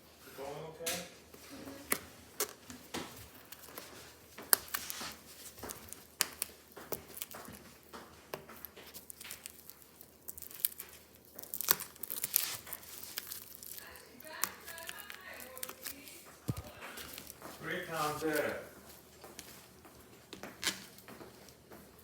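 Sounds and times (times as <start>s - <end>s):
plastic shrink wrap tearing: 1.5s - 18.6s, 20.4s - 21.1s.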